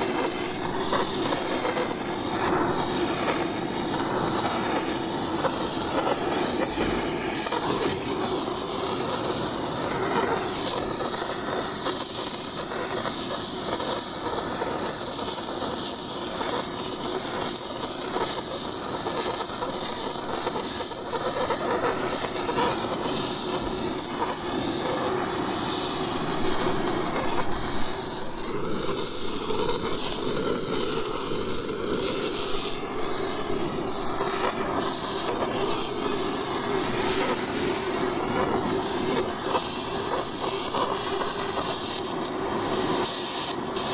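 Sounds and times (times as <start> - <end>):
torch flame hissing: 0.0 - 43.9.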